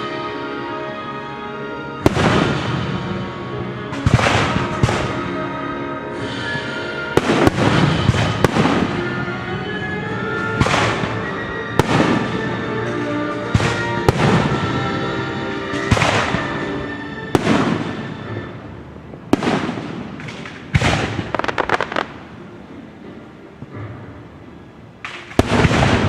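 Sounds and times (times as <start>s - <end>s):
orchestral music: 0.0s - 26.0s
fireworks bangs: 2.0s - 5.6s, 6.2s - 26.0s
fireworks crackling: 2.0s - 23.8s, 24.9s - 26.0s.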